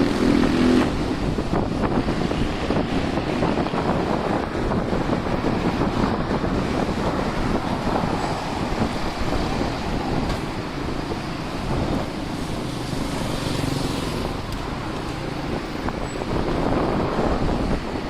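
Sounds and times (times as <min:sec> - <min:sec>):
vehicle passing: 0:00.0 - 0:17.9
street traffic: 0:00.0 - 0:18.0
wind buffeting microphone: 0:00.0 - 0:18.0.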